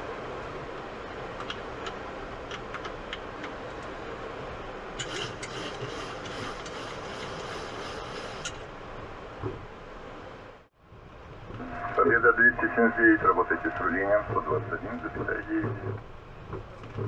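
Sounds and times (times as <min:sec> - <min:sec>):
aircraft cockpit rumble and hiss: 0:00.0 - 0:17.0.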